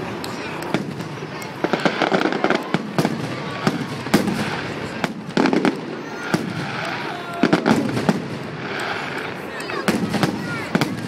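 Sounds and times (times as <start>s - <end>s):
fireworks cracks and bangs: 0.0s - 11.0s
rumble of fireworks bursts: 0.0s - 11.0s.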